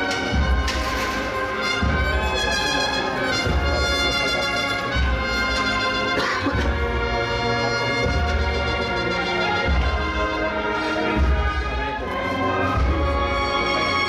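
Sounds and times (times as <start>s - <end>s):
brass band playing a march: 0.0s - 14.0s.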